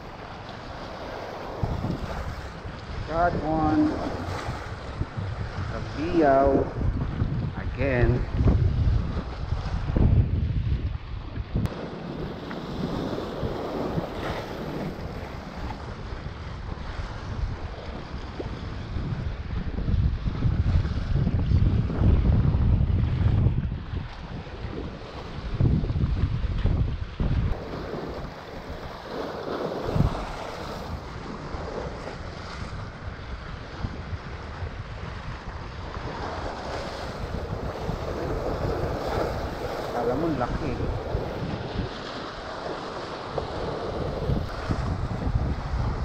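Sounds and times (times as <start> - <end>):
sea water washing: 0.0 - 46.0
wind buffeting microphone: 0.0 - 46.0.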